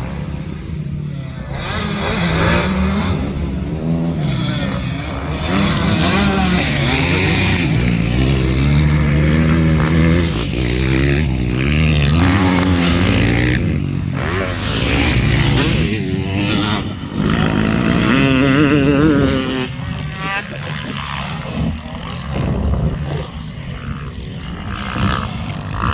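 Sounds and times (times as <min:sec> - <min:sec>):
motocross bike engines revving: 0:00.0 - 0:25.9.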